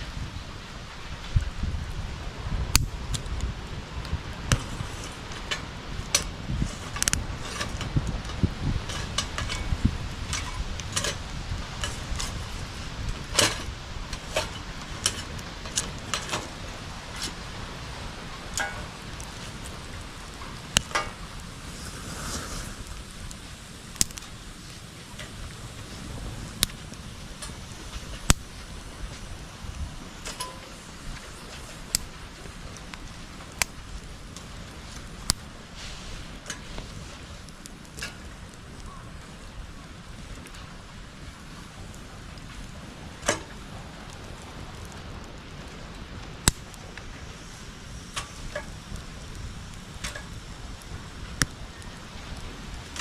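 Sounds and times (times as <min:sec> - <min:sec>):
bonfire crackling and popping: 0:00.0 - 0:53.0
steady low rumble: 0:00.0 - 0:53.0.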